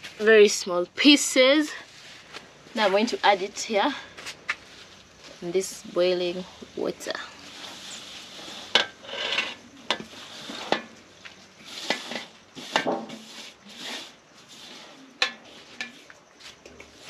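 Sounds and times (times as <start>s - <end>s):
greens scraping off tray: 1.8s - 17.0s.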